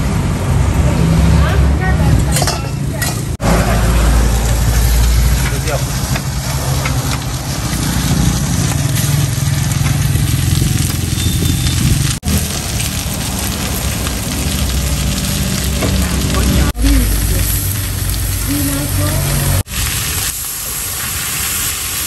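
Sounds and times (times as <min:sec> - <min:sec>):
noodles sizzling in a wok: 0:04.2 - 0:22.0.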